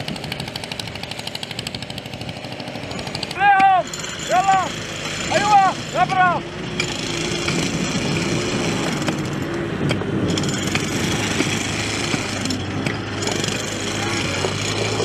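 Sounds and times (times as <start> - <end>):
engine running steadily: 0.0 - 15.0
pickaxe and shovels striking gravel: 0.0 - 15.0.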